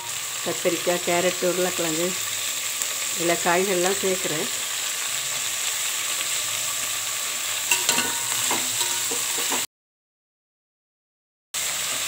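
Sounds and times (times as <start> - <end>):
vegetables sizzling in hot oil: 0.0 - 9.7, 11.6 - 12.0.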